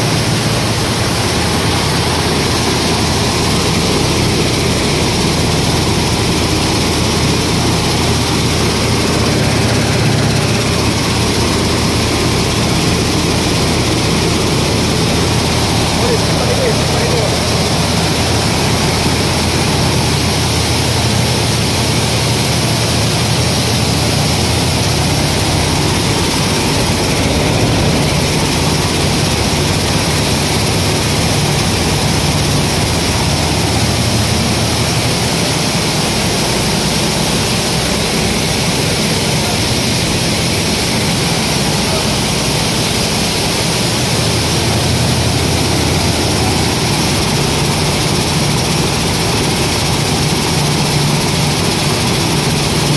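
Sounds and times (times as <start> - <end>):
grain cleaning machine hissing: 0.0 - 52.9
low machine hum: 0.0 - 52.9.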